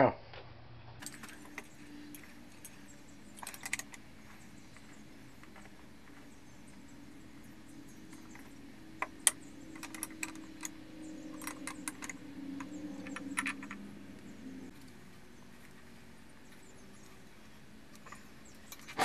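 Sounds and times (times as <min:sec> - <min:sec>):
low hum: 0:00.2 - 0:19.0.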